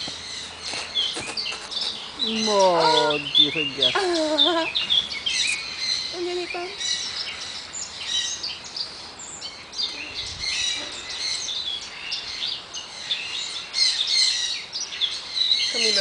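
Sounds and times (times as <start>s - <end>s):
monkeys chirping and chattering: 0.3s - 16.0s.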